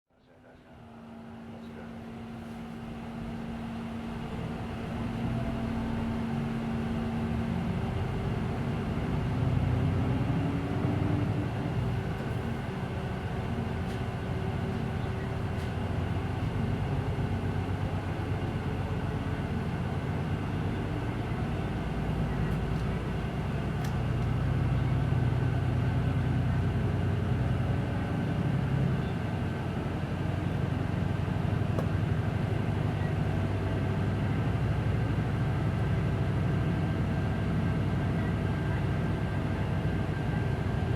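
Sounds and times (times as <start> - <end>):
bus engine under load: 0.8 - 40.9.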